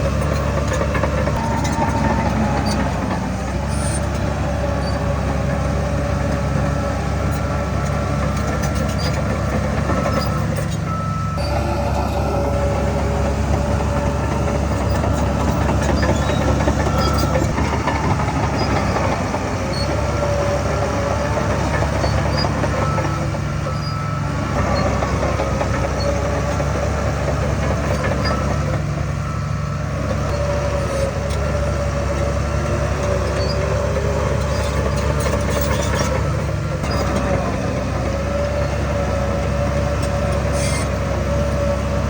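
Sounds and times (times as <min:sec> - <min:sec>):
heavy diesel machinery running: 0:00.0 - 0:42.0.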